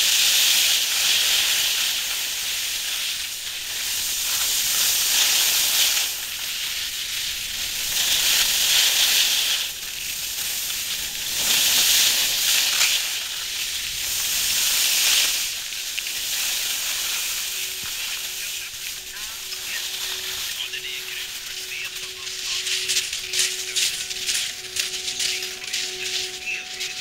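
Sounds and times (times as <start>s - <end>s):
skis scraping over packed snow: 0.0s - 27.0s.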